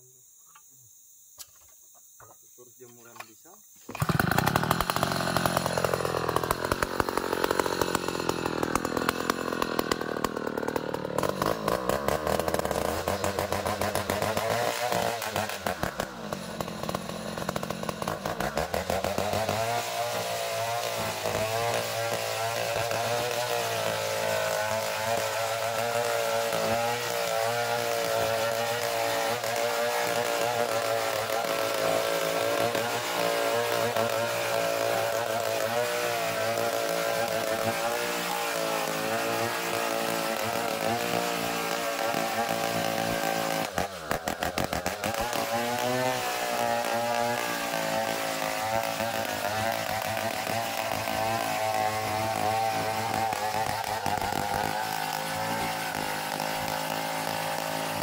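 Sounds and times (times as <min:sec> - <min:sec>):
bandsaw mill whining: 0:03.9 - 0:58.0.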